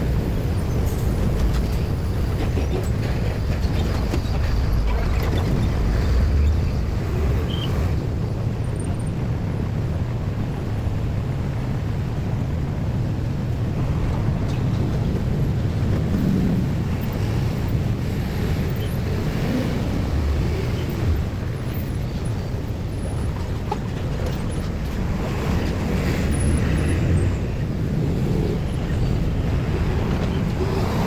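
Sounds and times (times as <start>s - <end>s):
low rumble of vehicles: 0.0s - 31.0s
wind noise on microphone: 0.0s - 31.0s.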